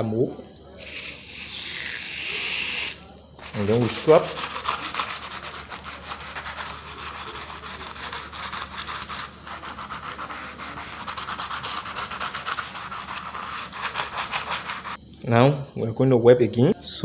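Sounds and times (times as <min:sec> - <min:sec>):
brush scrubbing: 0:00.9 - 0:15.0.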